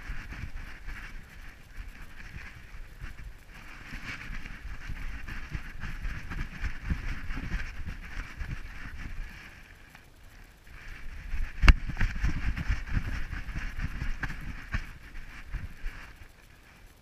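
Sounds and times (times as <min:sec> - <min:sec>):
camera bumping and rubbing: 0:00.0 - 0:09.4, 0:10.8 - 0:16.3
steady hiss: 0:00.0 - 0:17.0.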